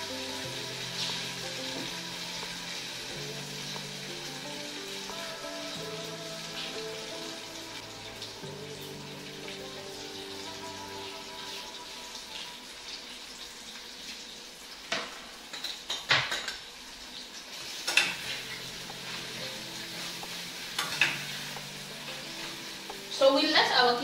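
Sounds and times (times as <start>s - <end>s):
butter sizzling in a saucepan: 0.0s - 24.0s.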